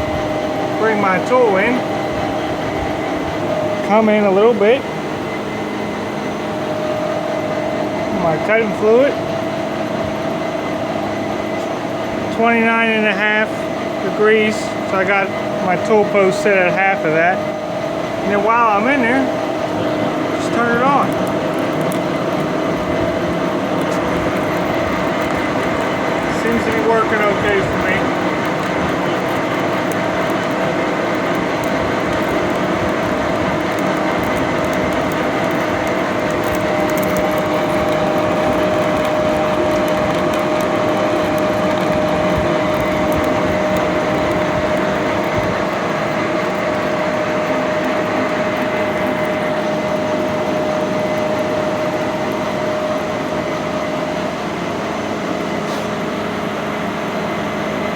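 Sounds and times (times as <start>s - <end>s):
metal lathe whining: 0.0s - 57.9s.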